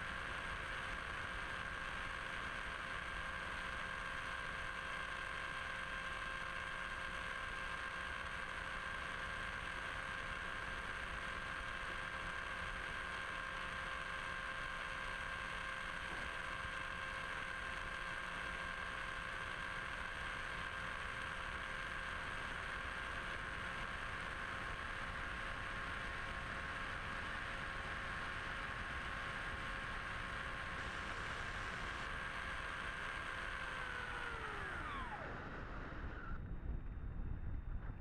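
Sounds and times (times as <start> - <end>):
electric motor propeller whine: 0.0 - 37.6.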